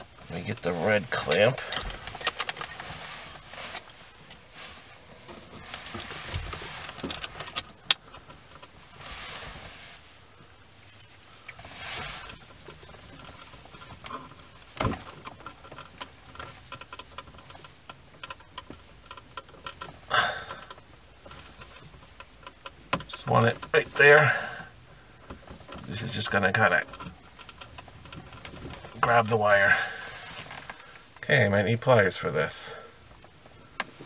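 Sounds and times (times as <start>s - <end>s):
rustling of small parts: 0.0s - 31.2s.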